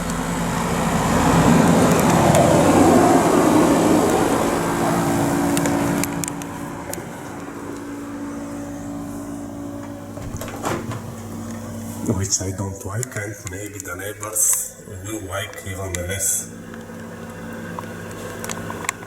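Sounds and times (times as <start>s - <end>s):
air conditioner fan rush: 0.0s - 19.0s
air conditioner low hum: 0.0s - 19.0s.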